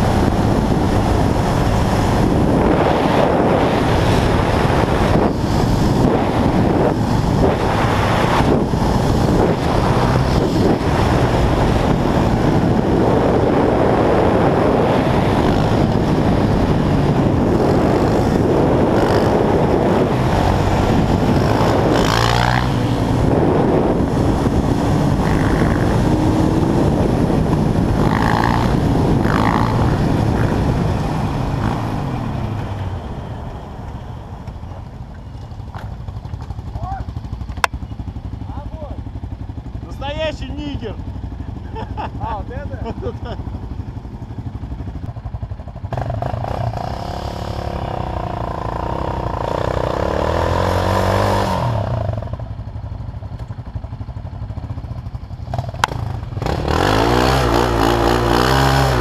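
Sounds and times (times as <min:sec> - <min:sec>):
quad bike engine running: 0:00.0 - 0:59.0
wind rush on microphone: 0:00.0 - 0:59.0.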